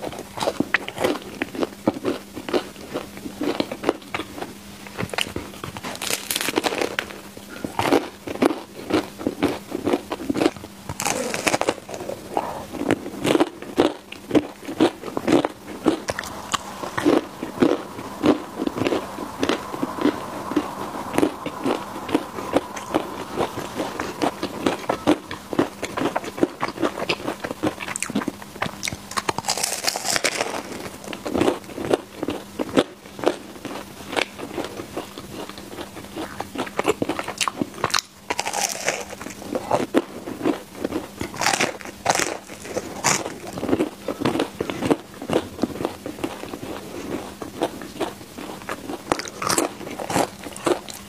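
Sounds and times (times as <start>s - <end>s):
chewing with mouth clicks: 0.0s - 51.0s.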